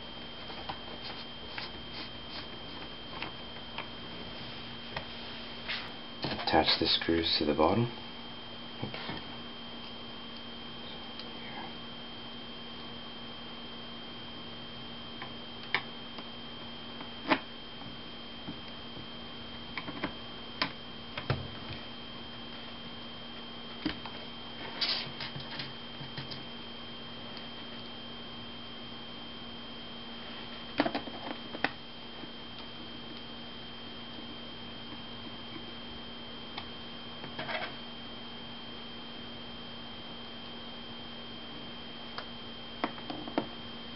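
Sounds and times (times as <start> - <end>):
high whine: 0.0 - 43.9.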